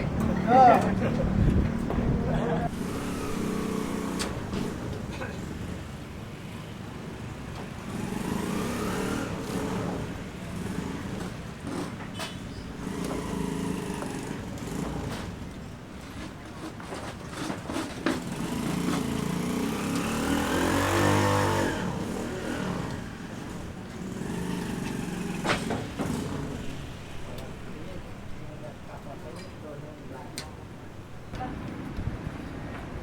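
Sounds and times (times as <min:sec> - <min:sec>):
vehicles passing: 0:00.0 - 0:33.0.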